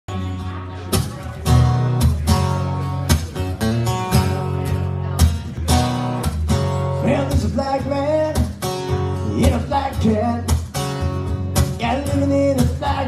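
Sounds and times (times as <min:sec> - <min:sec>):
acoustic guitar strumming chords: 0:00.1 - 0:13.0.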